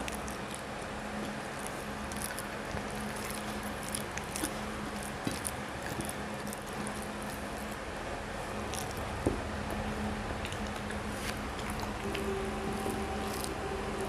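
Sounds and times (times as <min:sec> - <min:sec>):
wet squishing of food mashed by hand: 0:00.0 - 0:12.2
chewing: 0:00.0 - 0:14.0
steady low hum: 0:00.0 - 0:14.0.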